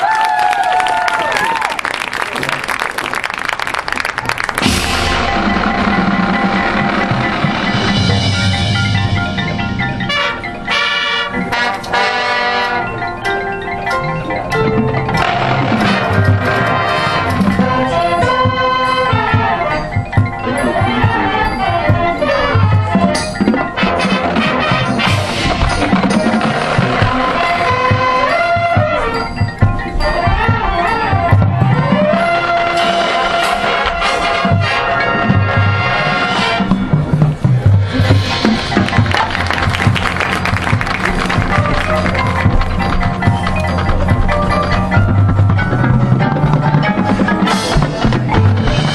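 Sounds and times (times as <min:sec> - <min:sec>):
marching band playing: 0:02.2 - 0:48.9
marimba and glockenspiel runs: 0:04.6 - 0:48.9.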